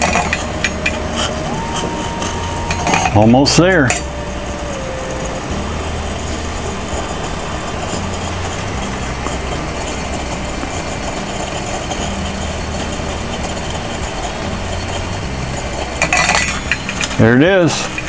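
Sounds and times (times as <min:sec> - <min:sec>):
alcohol stove burning rumble: 0:00.0 - 0:18.0.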